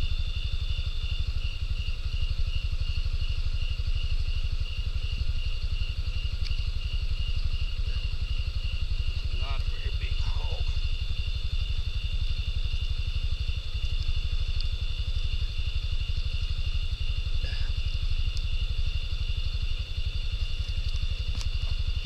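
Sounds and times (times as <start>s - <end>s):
engine idling: 0.0s - 22.0s
high-pitched whine: 0.0s - 22.0s.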